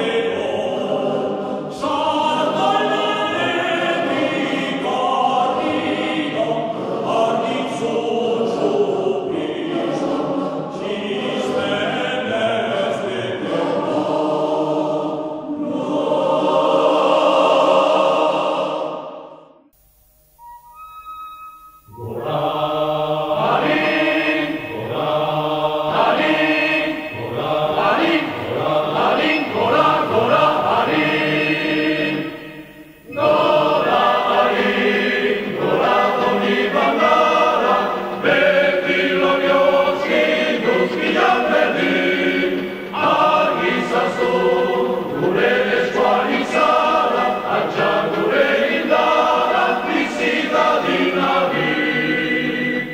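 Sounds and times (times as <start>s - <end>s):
choir singing: 0.0s - 19.7s, 21.8s - 52.9s.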